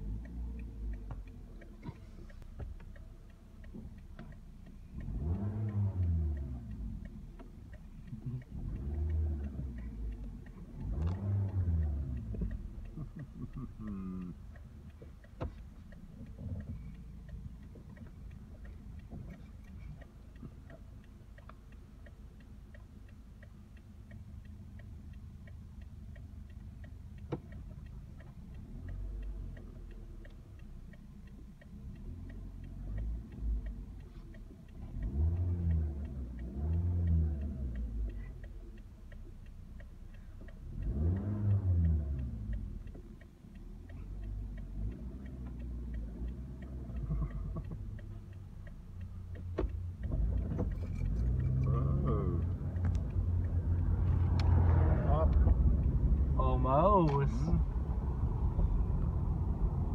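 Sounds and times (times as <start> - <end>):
car engine idling and revving: 0.0 - 59.9
turn signal ticking: 0.0 - 59.9.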